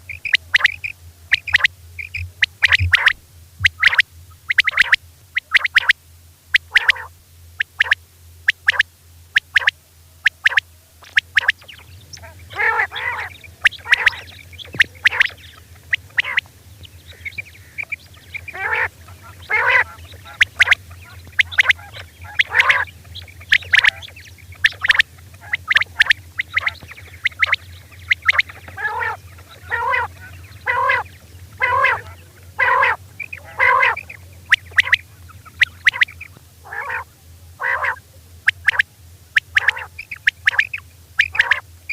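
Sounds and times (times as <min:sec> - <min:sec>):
faint low hum: 0:00.0 - 0:41.9
quail raspy call: 0:00.0 - 0:41.9.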